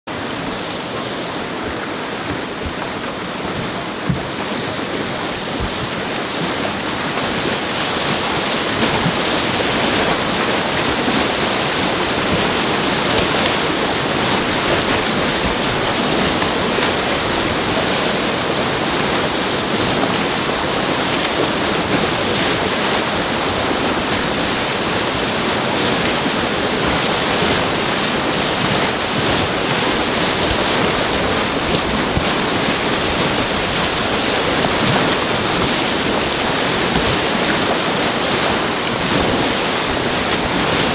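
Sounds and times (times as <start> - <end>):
whitewater rushing and splashing: 0.1 - 40.9.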